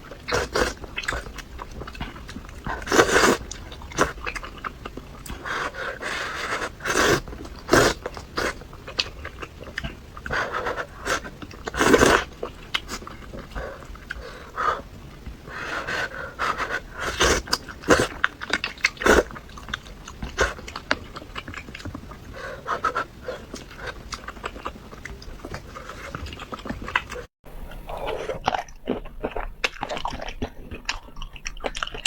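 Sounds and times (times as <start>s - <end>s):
wet chewing and mouth smacks: 0.2s - 15.4s, 16.5s - 32.0s.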